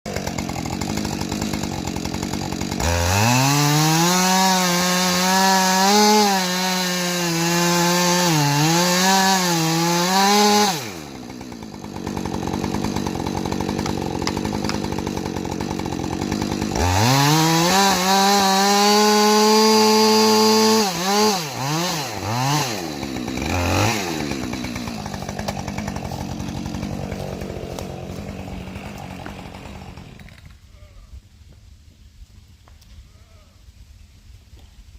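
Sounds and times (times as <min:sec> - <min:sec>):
chainsaw revving and cutting: 0:00.1 - 0:30.6.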